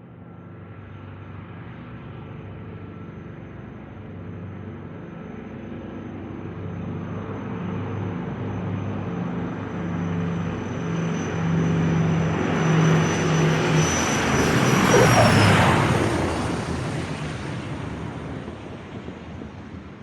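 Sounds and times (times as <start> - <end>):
airplane flying overhead: 0.0 - 20.0.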